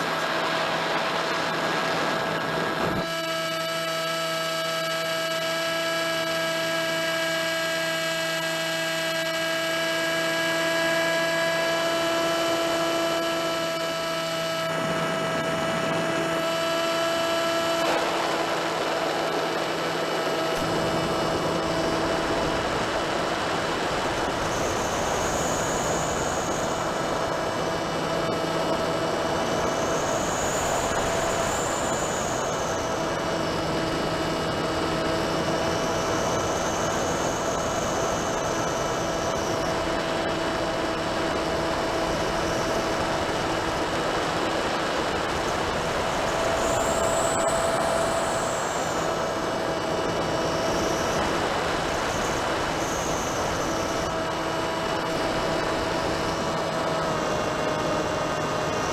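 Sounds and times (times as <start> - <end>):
electric motor and propeller whine: 0.0 - 58.9.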